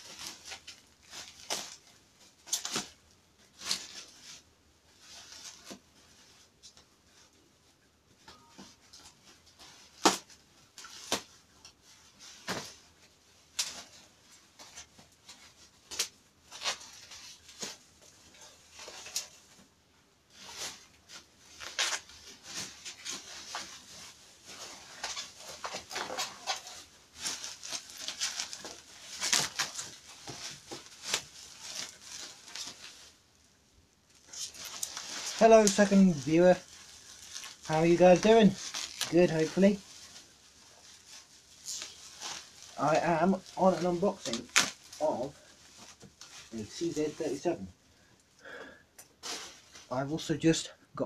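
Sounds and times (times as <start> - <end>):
bubble wrap crinkling: 0.0 - 50.6.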